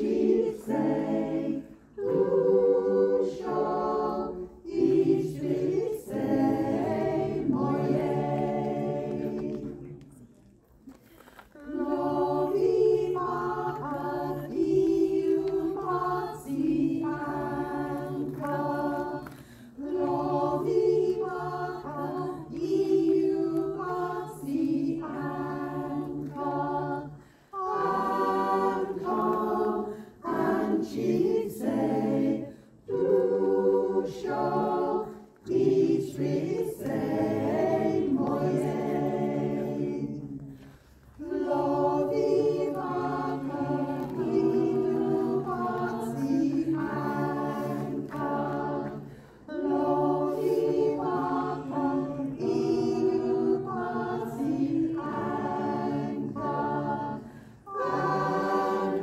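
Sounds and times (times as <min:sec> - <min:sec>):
choir singing unaccompanied: 0:00.0 - 0:10.0, 0:11.6 - 0:59.0.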